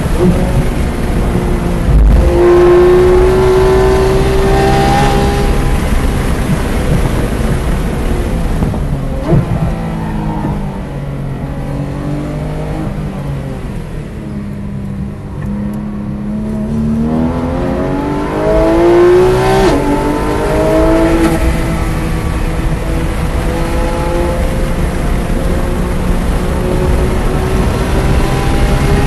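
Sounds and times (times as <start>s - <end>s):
sports car engine accelerating: 0.0s - 7.4s, 8.0s - 29.0s.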